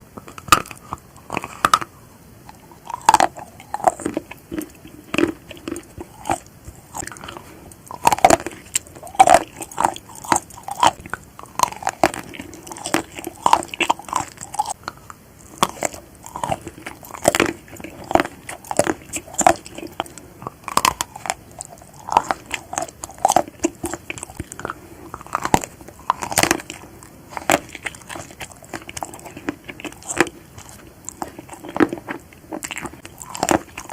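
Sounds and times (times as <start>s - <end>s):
chewing crunchy marshmallows: 0.1s - 33.9s.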